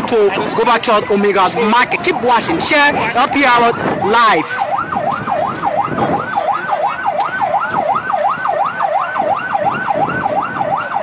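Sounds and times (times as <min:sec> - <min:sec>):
siren yelping: 0:00.6 - 0:11.0.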